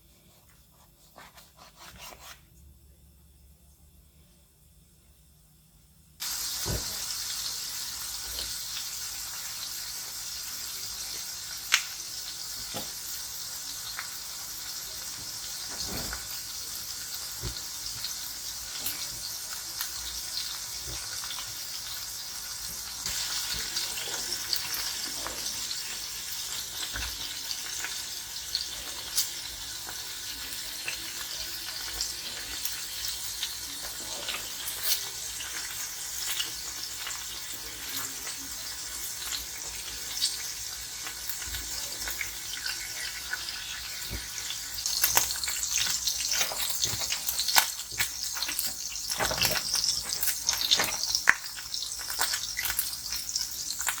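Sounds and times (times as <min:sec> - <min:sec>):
food frying in oil: 0:06.2 - 0:54.0.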